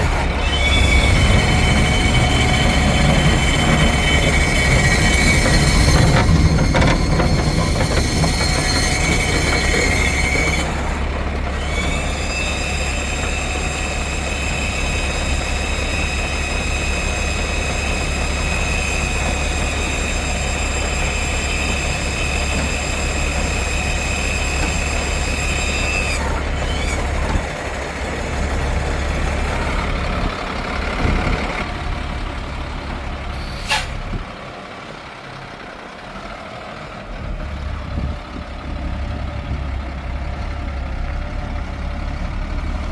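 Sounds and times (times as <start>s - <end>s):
truck engine idling: 0.0s - 42.9s.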